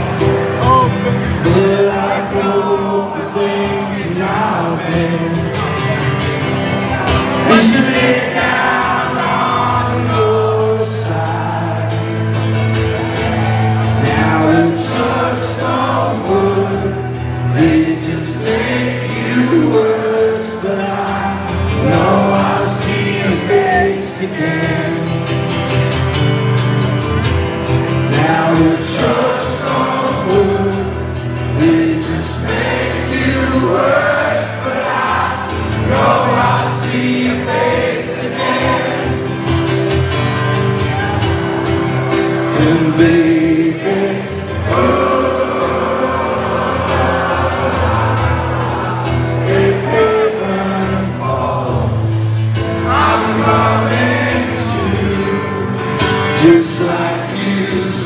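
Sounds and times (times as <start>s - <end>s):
man singing: 0.0s - 6.2s, 7.3s - 12.3s, 14.0s - 25.7s, 27.9s - 39.3s, 42.4s - 48.2s, 49.4s - 58.0s
strummed acoustic guitar: 0.0s - 58.0s.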